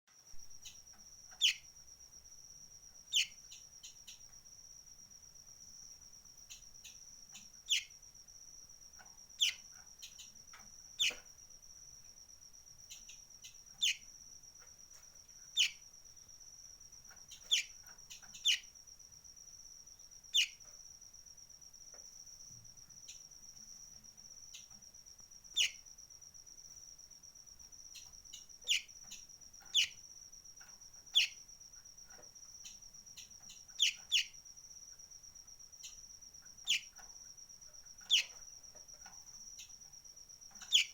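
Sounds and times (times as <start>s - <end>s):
insect trilling: 0.1s - 40.9s.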